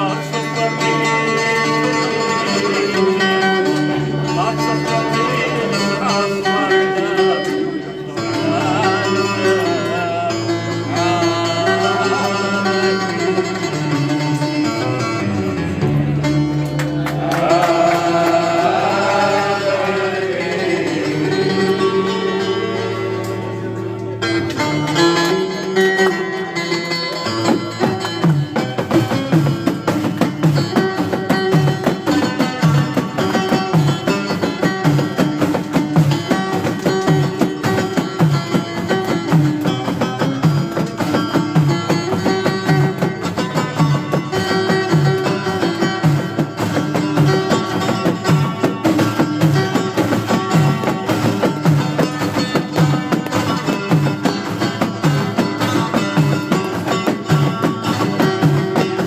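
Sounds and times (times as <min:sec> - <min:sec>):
drums keeping steady beat: 0:08.2 - 0:23.4, 0:24.2 - 0:59.0.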